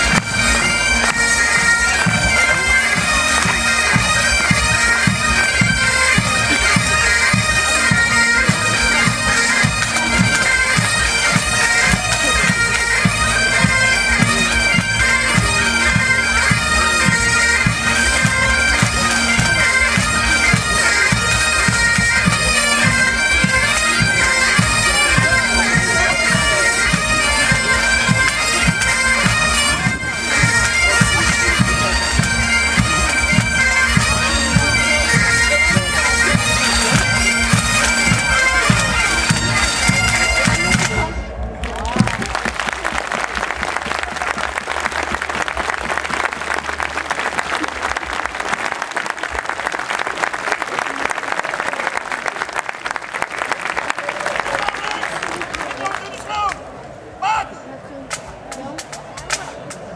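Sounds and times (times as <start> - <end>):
bagpipes playing a tune: 0.0 - 50.1.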